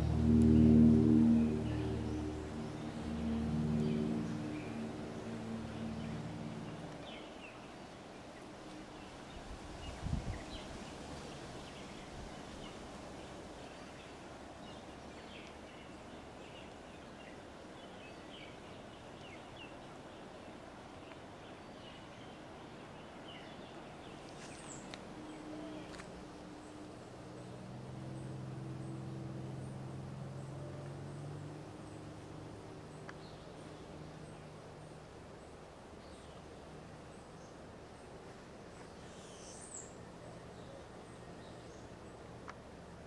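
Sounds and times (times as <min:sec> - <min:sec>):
steady forest hiss: 0:00.0 - 0:43.0.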